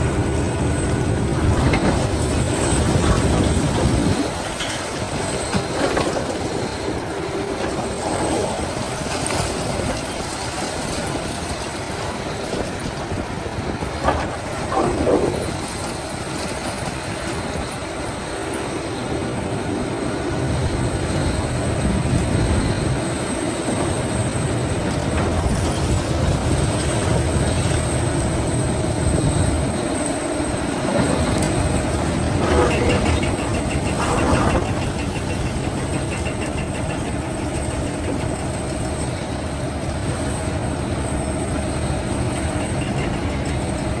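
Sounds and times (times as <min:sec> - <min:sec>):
excavator diesel engine: 0:00.0 - 0:44.0.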